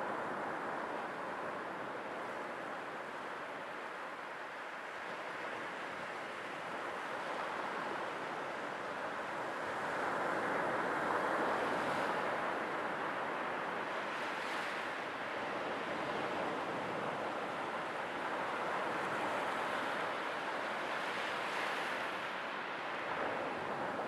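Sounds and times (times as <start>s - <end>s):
sea waves washing on shore: 0.1s - 24.0s.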